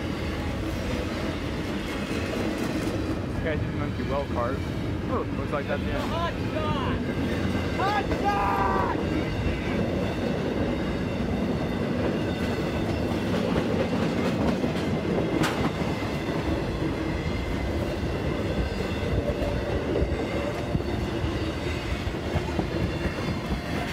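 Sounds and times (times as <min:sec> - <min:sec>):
clickety-clack over rail joints: 0:00.0 - 0:08.2, 0:09.0 - 0:23.9
train wheels rumbling on rail: 0:00.0 - 0:23.9.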